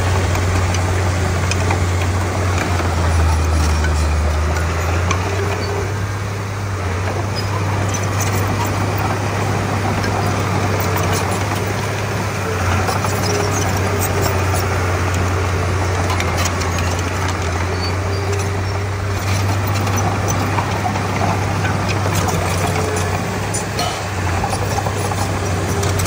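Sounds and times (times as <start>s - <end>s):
bulldozer diesel engine humming: 0.0s - 26.0s.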